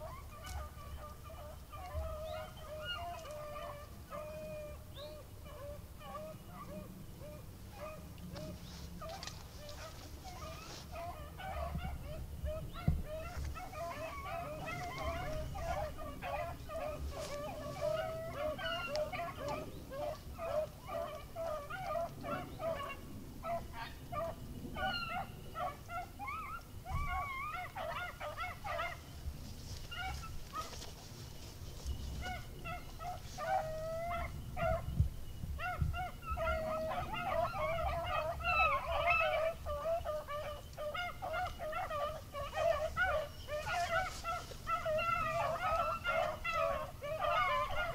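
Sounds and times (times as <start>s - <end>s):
dogs baying: 0.0s - 35.0s, 35.6s - 47.9s.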